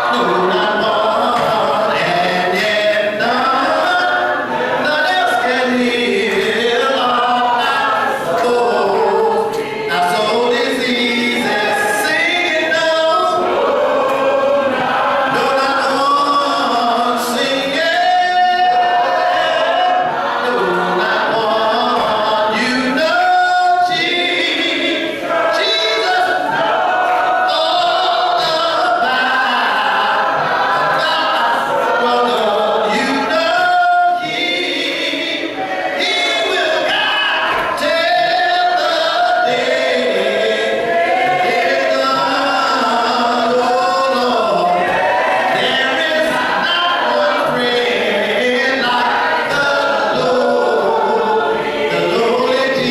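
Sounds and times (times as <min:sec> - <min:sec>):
congregation singing a hymn: 0:00.0 - 0:52.9.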